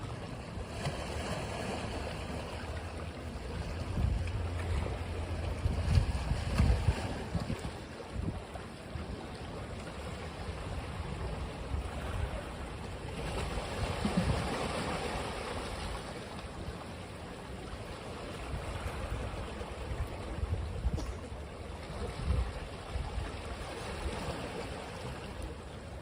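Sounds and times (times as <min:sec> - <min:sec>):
ocean waves washing on beach: 0:00.0 - 0:26.0
wind rumble on microphone: 0:02.3 - 0:16.8, 0:18.3 - 0:26.0.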